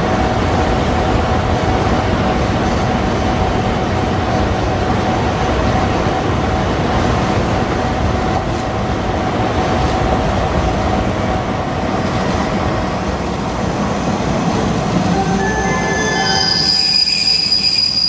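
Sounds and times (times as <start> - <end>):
diesel railcar engine rumble: 0.0 - 18.0
train wheels on rails: 0.0 - 18.0.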